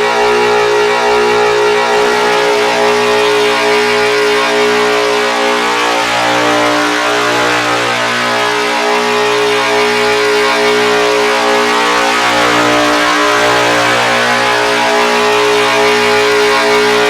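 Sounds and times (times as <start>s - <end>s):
guitar pedal noise drone: 0.0s - 17.0s.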